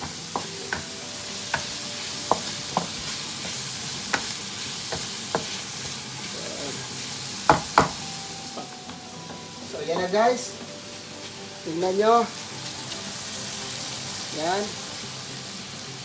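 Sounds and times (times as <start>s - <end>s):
noodles sizzling in a pan: 0.0s - 16.0s.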